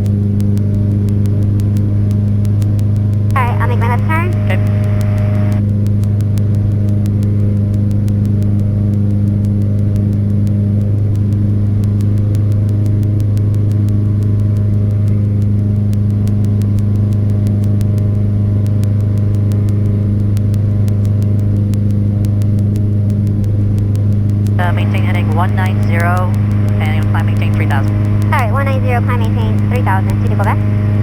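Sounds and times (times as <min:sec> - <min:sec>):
faint clicks: 0:00.0 - 0:31.0
propeller plane engine droning: 0:00.0 - 0:31.0.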